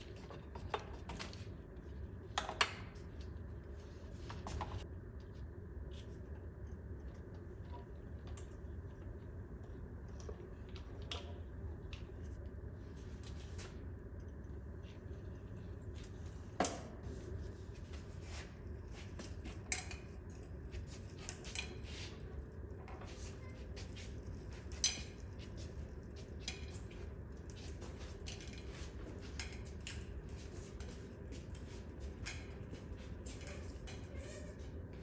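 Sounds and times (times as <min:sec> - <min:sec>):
faint hum: 0:00.0 - 0:35.0.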